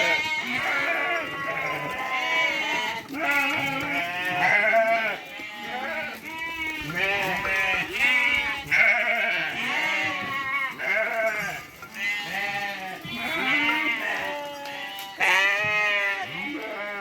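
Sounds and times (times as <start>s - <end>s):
sheep bleating: 0.0s - 17.0s.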